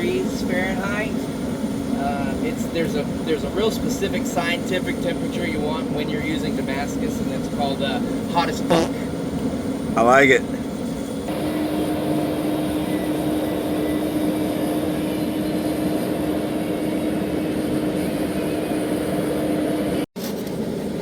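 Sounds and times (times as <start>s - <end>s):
forge burner rushing and humming: 0.0s - 21.0s.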